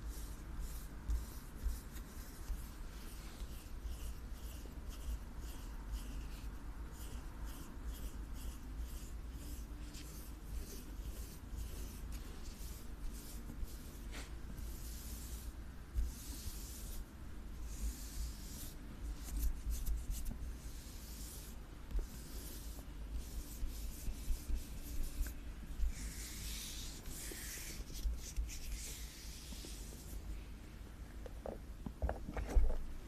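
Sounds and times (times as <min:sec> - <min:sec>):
scratching and rubbing on object: 0:00.0 - 0:30.2.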